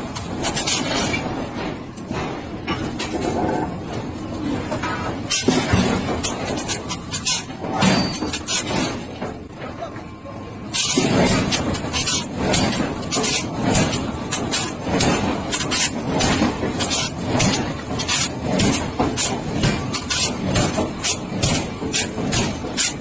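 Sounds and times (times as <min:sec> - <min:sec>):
factory machinery din: 0:00.0 - 0:23.0.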